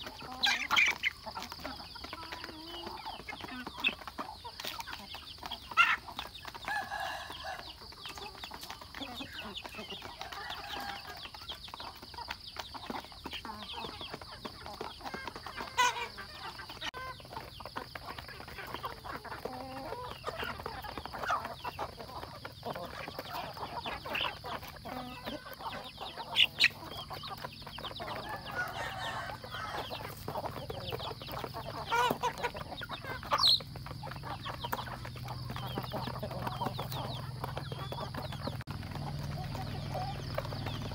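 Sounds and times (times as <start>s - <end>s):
beaks pecking grain from plates: 0.0s - 40.9s
chickens clucking: 0.0s - 40.9s
loud chicken calls: 0.0s - 40.9s.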